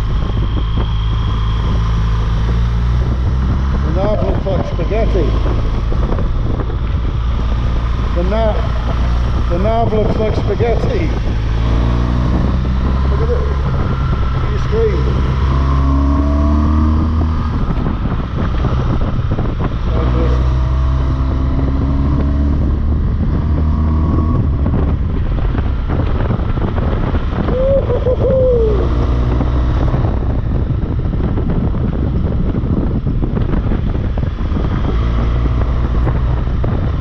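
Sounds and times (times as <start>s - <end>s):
wind noise on microphone: 0.0s - 37.0s.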